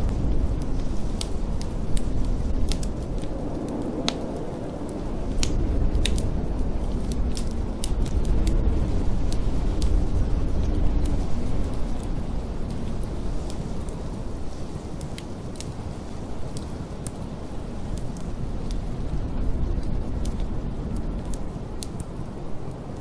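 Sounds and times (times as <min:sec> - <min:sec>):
storm wind rushing: 0:00.0 - 0:23.0
wood fire crackling: 0:00.0 - 0:23.0.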